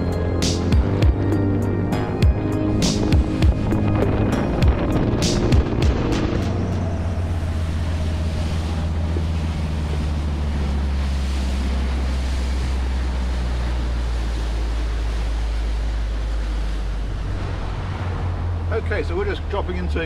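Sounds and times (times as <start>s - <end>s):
boat engine drone: 0.0s - 20.0s
wake rushing along hull: 0.0s - 20.0s.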